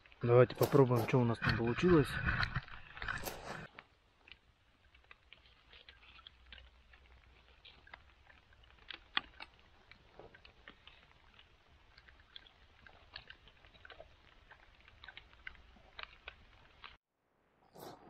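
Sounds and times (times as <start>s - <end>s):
person chewing food: 1.9s - 17.0s.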